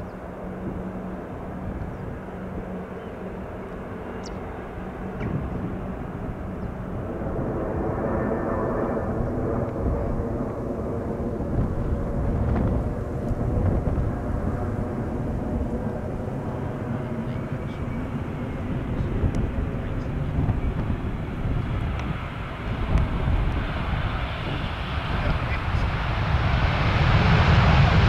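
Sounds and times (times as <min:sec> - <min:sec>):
jet airliner engine noise: 0:00.0 - 0:28.0.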